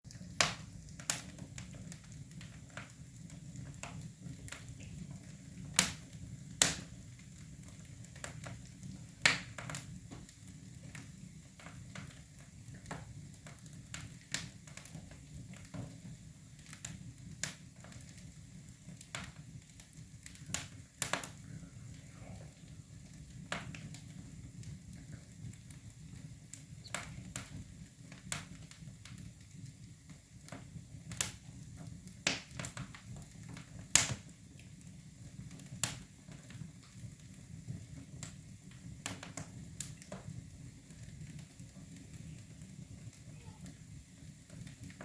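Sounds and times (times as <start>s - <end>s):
wood fire crackling and popping: 0.1s - 45.0s.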